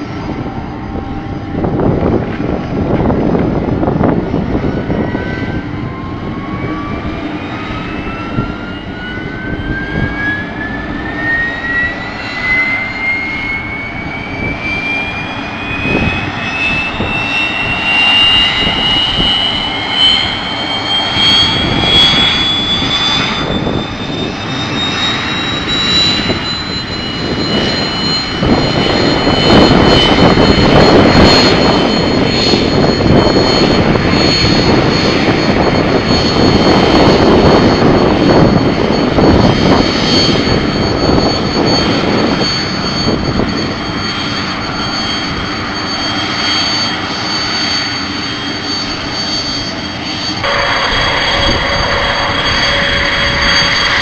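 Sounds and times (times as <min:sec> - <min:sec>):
helicopter rotor rushing: 0:00.0 - 0:54.0
helicopter turbine whine: 0:00.0 - 0:54.0.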